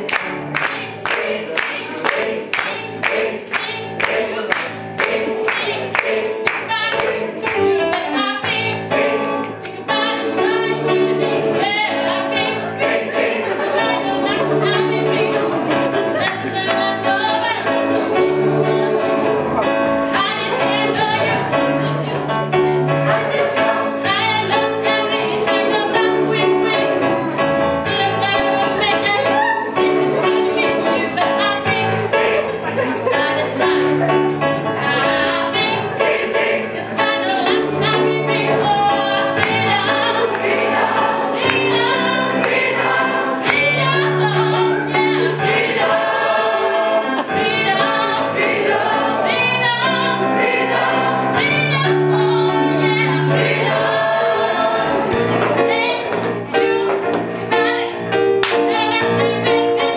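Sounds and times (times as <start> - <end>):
choir singing: 0.0 - 59.9
electric keyboard: 4.0 - 59.9.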